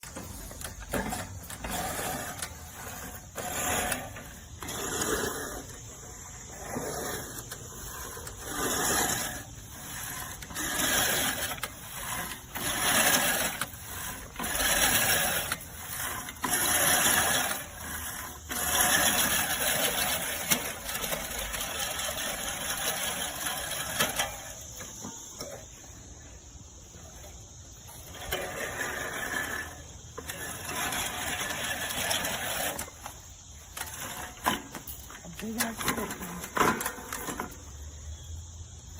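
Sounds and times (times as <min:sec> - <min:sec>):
reel mower cutting grass: 0:00.0 - 0:37.8.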